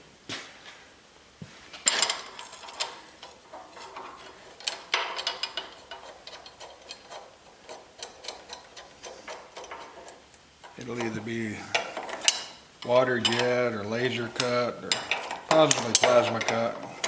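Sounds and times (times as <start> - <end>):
metal parts clinking and scraping: 1.7 - 17.0
light metal ticks: 1.9 - 17.0.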